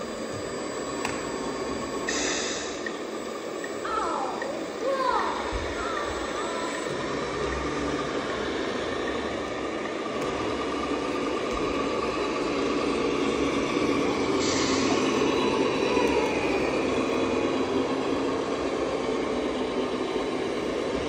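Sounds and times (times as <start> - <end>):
model trucks engine drone: 0.0 - 21.0.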